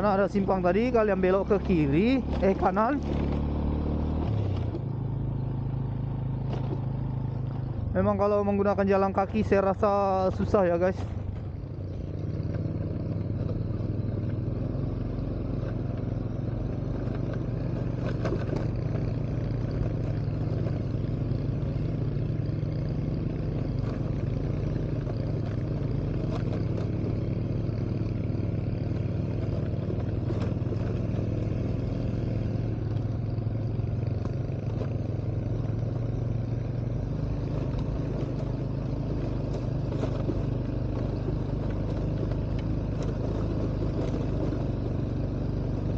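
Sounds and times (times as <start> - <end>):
vehicle engine humming: 0.0 - 45.9.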